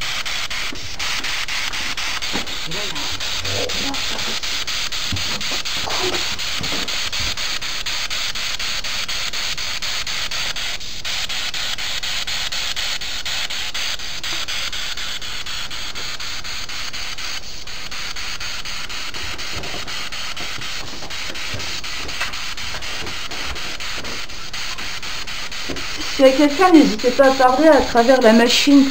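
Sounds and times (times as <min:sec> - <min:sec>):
radio static hiss: 0:00.0 - 0:28.9
rapid regular ticks: 0:00.0 - 0:28.9.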